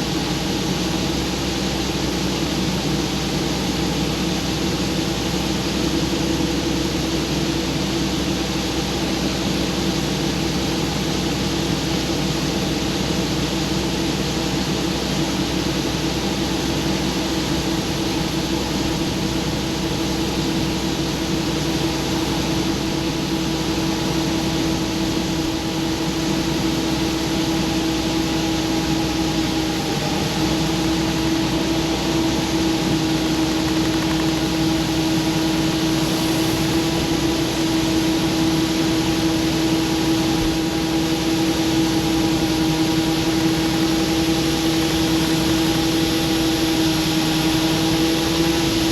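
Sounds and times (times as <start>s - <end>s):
combine harvester droning: 0.0s - 48.9s.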